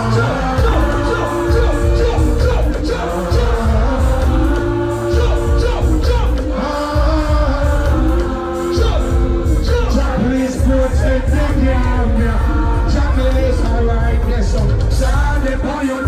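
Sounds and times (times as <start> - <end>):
person singing: 0.0 - 14.3
live band music: 0.0 - 16.0
pulsing bass line: 0.0 - 16.0.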